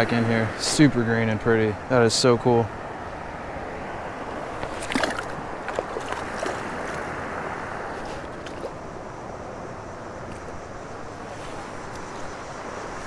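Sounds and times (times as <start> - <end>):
flowing creek water: 0.0 - 13.0.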